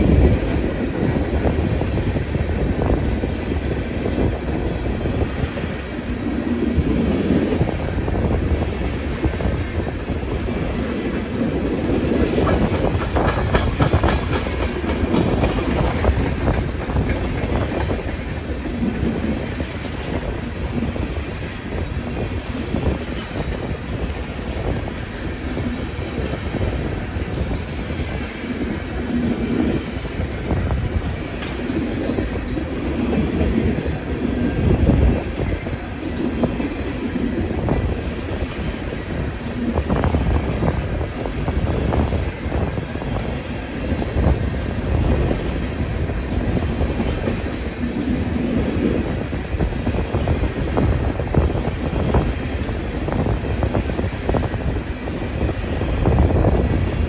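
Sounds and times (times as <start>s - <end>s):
railroad cars rumbling past: 0.0s - 57.0s
wheels clacking on rail joints: 0.0s - 57.0s.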